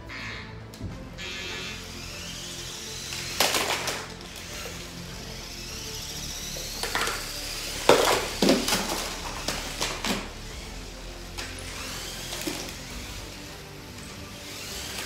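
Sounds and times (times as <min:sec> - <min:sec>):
robot spinning weapons whirring: 0:01.4 - 0:15.0.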